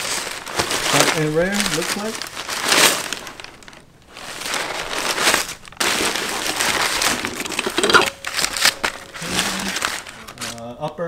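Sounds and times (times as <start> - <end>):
packing paper crinkling: 0.0 - 11.0.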